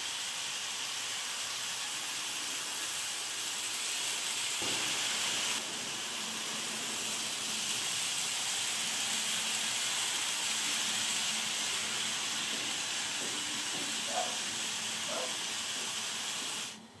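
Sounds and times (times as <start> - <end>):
model train wheels and motor hiss: 0.0 - 17.0.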